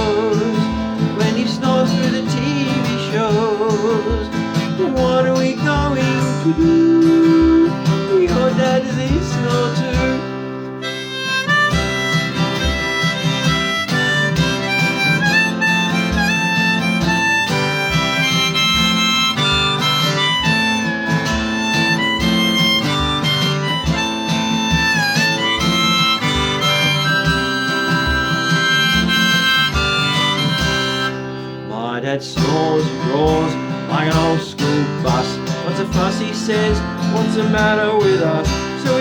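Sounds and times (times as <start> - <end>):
guitar: 0.0 - 39.0
harmonica melody: 0.0 - 39.0.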